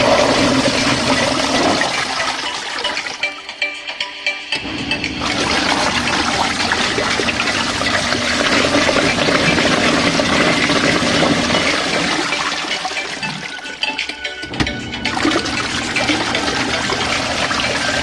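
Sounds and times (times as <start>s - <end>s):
water rushing in washing machine: 0.0s - 3.5s, 4.6s - 14.0s, 14.6s - 18.0s.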